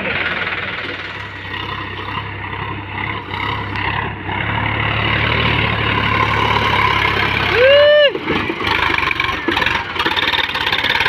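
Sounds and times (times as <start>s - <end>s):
loud rising and falling tone: 0.0s - 9.2s
tractor engine running: 0.0s - 11.0s.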